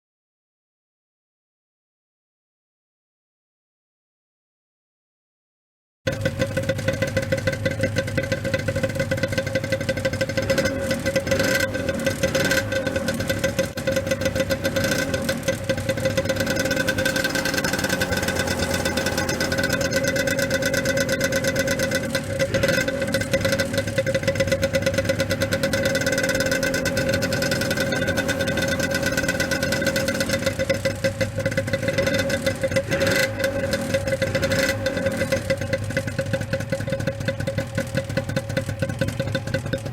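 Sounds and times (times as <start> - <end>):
two-stroke motorcycle engine idling: 6.1 - 39.9.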